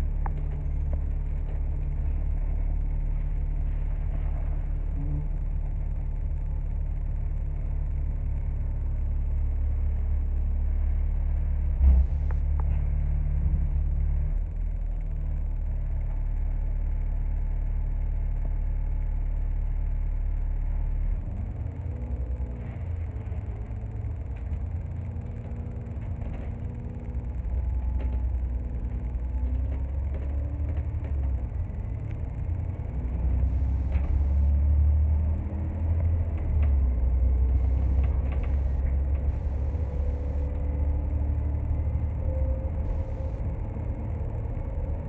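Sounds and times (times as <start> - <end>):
bus diesel engine rumbling: 0.0 - 17.2, 19.6 - 45.0.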